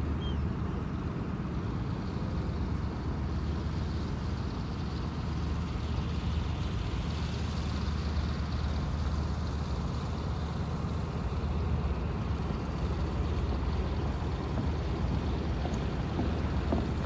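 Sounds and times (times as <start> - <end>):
floatplane engine droning: 0.0 - 17.0.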